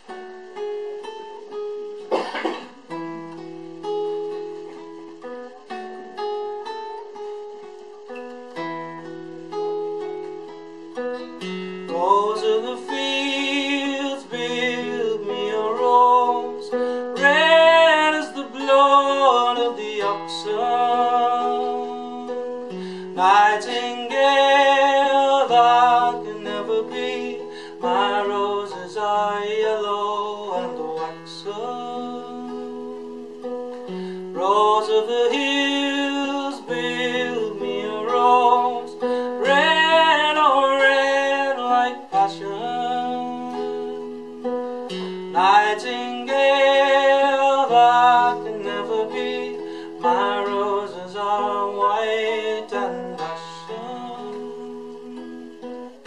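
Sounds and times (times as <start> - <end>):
classical guitar playing: 0.0 - 56.0
man singing folk song: 0.0 - 56.0.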